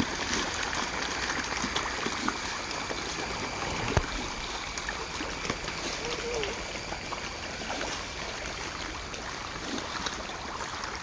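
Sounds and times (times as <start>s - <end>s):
fish splashing at water surface: 0.0s - 11.0s.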